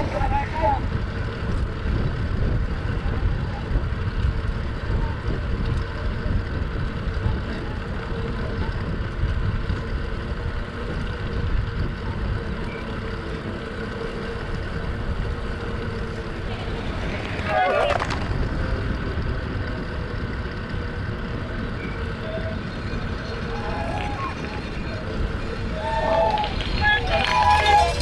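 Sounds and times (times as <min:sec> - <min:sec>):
vehicle rumbling: 0:00.0 - 0:28.0.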